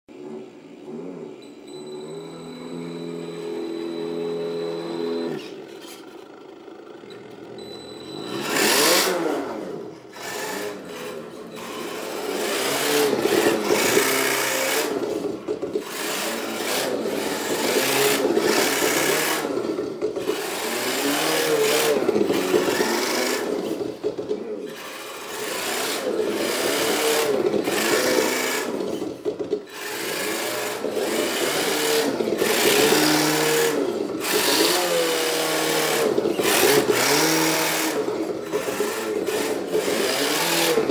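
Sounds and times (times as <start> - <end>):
toy car motor whine: 1.0 - 40.9.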